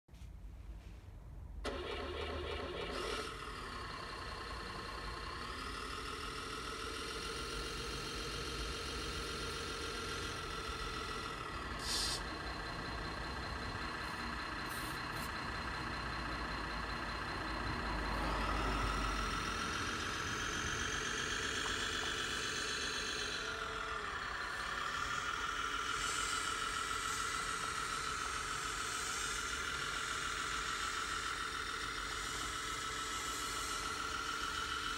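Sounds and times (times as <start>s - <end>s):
simulated diesel engine idling: 1.5s - 34.9s.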